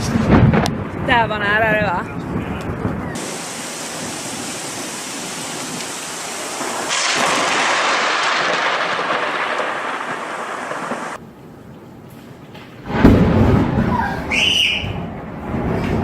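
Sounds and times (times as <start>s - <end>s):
thunder rolling: 0.0s - 11.4s, 12.8s - 16.0s
steady rain hiss: 0.0s - 13.0s.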